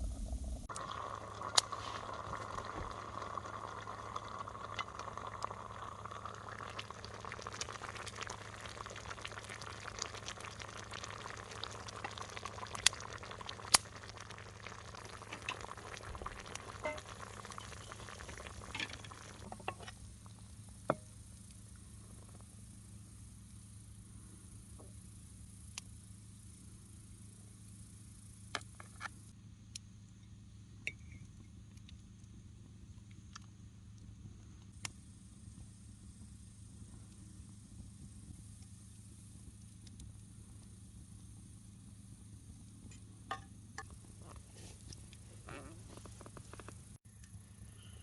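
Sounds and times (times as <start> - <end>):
wine simmering with sizzling hiss: 0.0 - 48.0.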